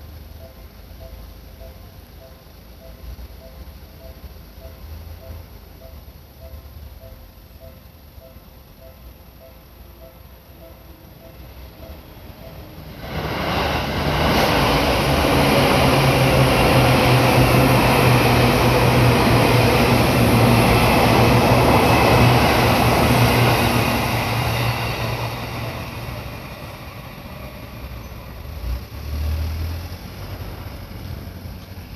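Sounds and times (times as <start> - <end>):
low hum: 0.0 - 29.0
train wheels rumbling on rail: 0.0 - 31.9.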